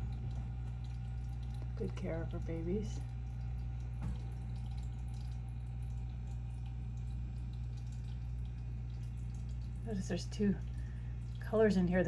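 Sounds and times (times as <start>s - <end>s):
aquarium filter humming: 0.0s - 12.0s
water trickling and dripping: 0.0s - 12.0s.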